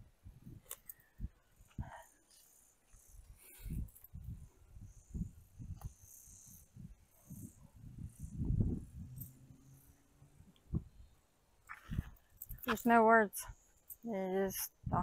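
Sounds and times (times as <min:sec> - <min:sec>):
faint insects chirping: 0:00.8 - 0:15.0.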